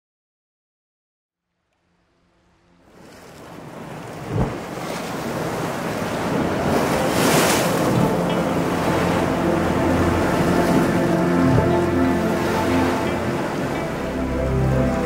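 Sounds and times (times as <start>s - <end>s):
sea surf and wind: 2.9s - 15.0s
waves breaking: 2.9s - 15.0s.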